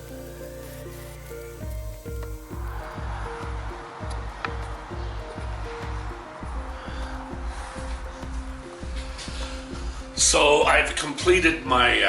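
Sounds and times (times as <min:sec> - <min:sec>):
music with bass beat: 0:00.0 - 0:12.0.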